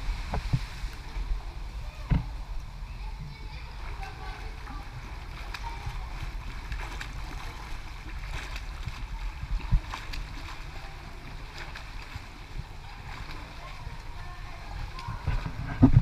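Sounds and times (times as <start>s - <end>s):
steady low rumble: 0.0s - 16.0s
water splashing from swim strokes: 0.0s - 16.0s.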